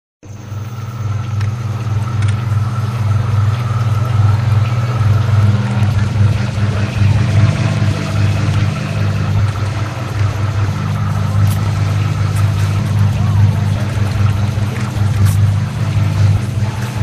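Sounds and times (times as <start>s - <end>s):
dishwasher humming: 0.2s - 17.0s.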